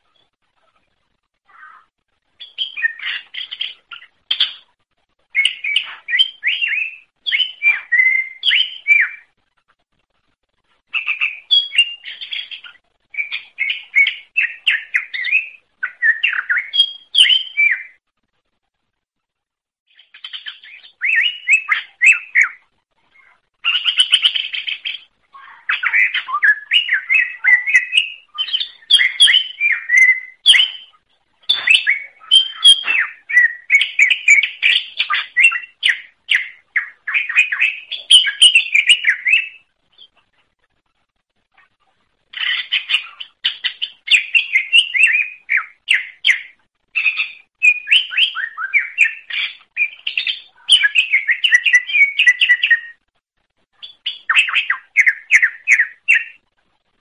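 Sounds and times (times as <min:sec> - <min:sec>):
songbird singing chirps and trills: 0:00.0 - 0:57.0.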